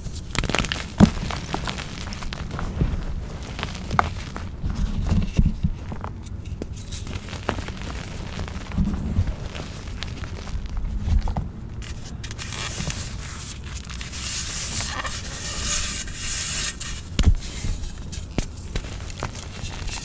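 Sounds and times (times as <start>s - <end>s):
chalk powder crunching: 0.0s - 10.9s, 11.8s - 20.0s.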